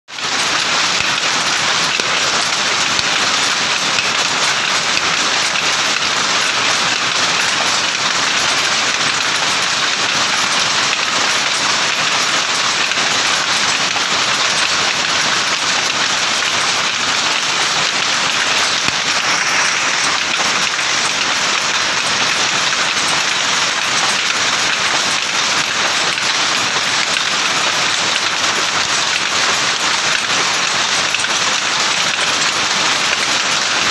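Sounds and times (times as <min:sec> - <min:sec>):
power loom clattering: 0:00.1 - 0:33.9.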